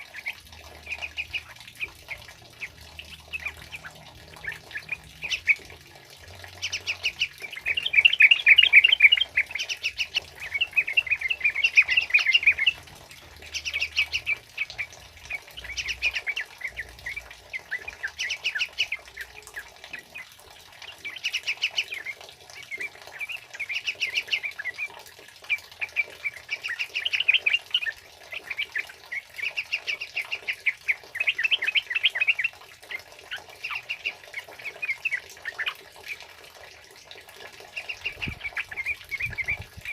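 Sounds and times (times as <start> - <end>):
bulbuls chattering song: 0.0 - 39.9.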